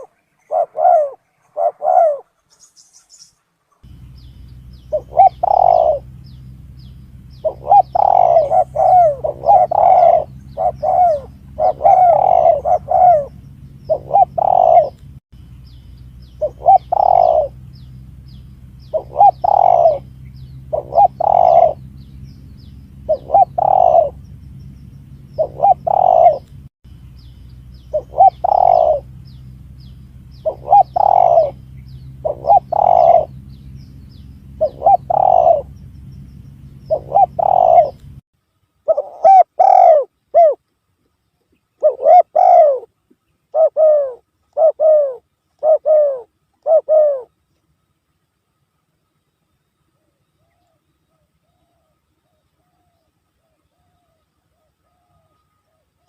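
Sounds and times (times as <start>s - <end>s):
dove cooing: 0.0s - 2.4s, 3.9s - 15.0s, 16.4s - 24.4s, 25.1s - 26.5s, 27.8s - 36.0s, 36.6s - 38.1s, 38.8s - 40.6s, 41.8s - 47.4s, 50.0s - 56.0s
faint steady hum: 0.0s - 56.0s.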